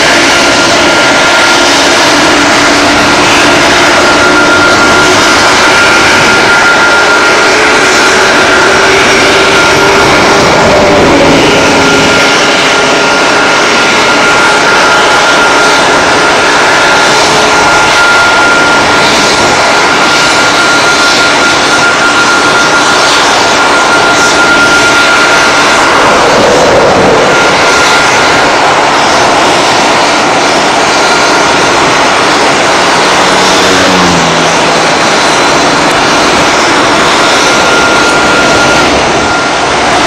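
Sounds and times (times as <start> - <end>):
jet engine high whine: 0.0 - 40.0
jet engines roaring: 0.0 - 40.0.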